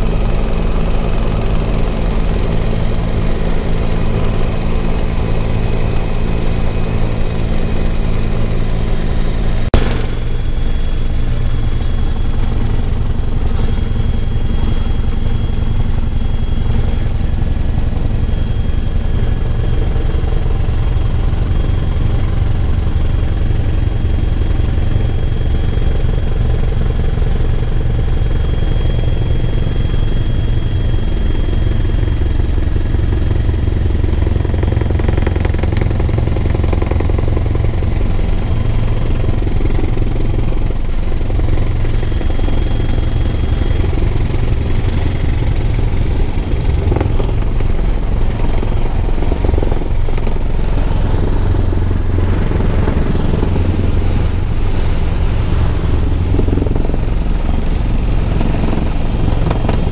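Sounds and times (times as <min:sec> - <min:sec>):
helicopter rotor and engine drone: 0:00.0 - 0:59.9
high whine: 0:00.0 - 0:59.9.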